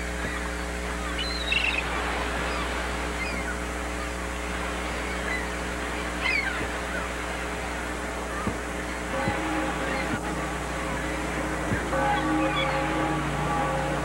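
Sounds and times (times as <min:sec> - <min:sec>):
low hum: 0:00.0 - 0:14.0
high falling bird calls: 0:00.1 - 0:07.2, 0:08.3 - 0:14.0
wash of noise: 0:01.7 - 0:14.0.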